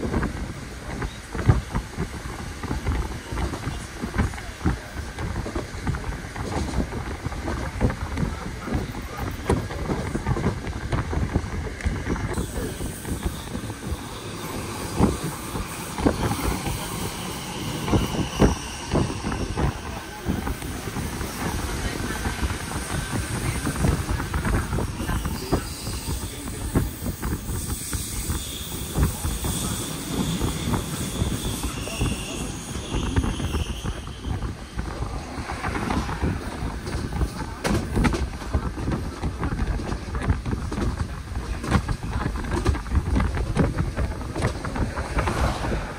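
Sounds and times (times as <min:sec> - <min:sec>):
train rumbling along track: 0:00.0 - 0:45.9.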